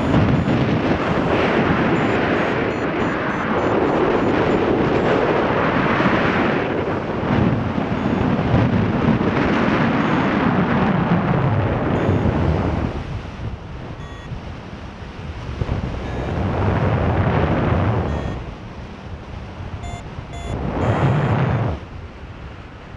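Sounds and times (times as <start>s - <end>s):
wind roaring over microphone: 0.0s - 22.9s.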